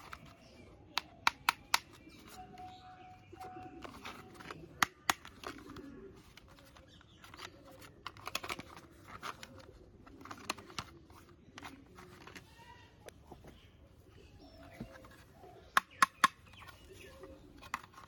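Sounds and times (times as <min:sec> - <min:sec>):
plastic toy parts clicking: 0:00.0 - 0:02.8, 0:03.4 - 0:12.6, 0:14.8 - 0:18.0.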